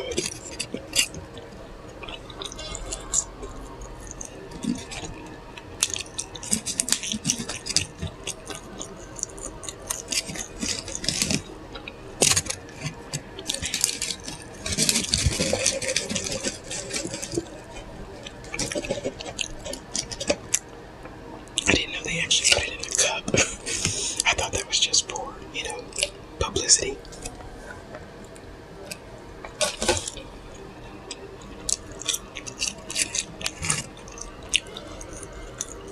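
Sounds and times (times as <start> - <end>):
wet chewing and lip smacking: 0.0 - 35.9.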